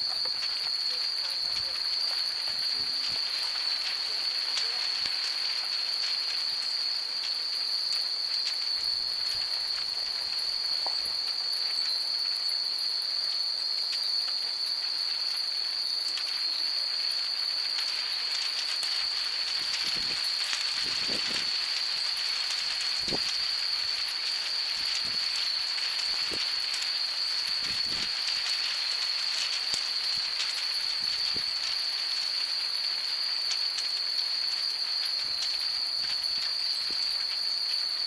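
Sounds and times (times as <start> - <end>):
steady high-pitched whine: 0.0 - 38.0.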